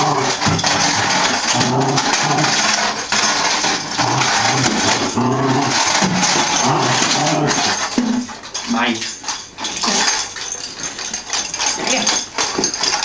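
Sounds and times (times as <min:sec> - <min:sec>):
cat toy jingling rattle: 0:00.0 - 0:13.0.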